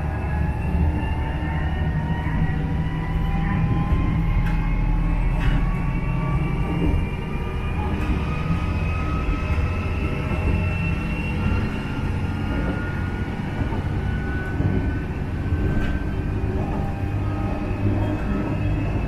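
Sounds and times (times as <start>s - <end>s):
railcar engine and wheel rumble: 0.0s - 19.0s.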